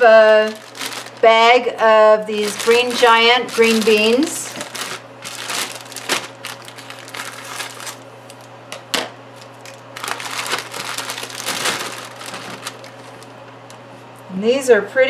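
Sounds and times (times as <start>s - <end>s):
plastic bag crinkling: 0.0s - 8.5s, 9.3s - 13.8s.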